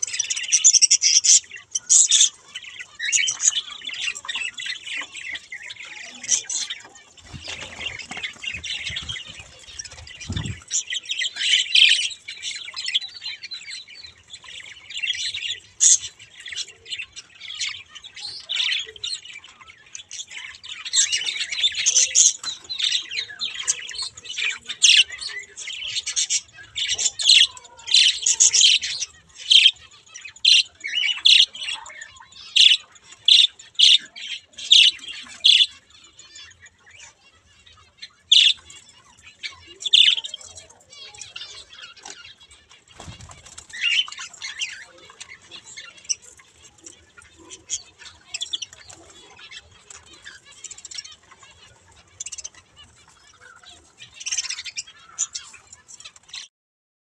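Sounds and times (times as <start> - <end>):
budgerigars chirping and squawking: 0.0 - 56.5.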